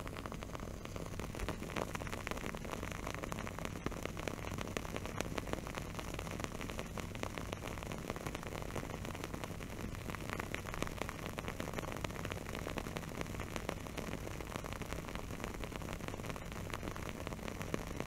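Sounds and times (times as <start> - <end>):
candle wick crackling: 0.0 - 18.0
steady background hiss: 0.0 - 18.0.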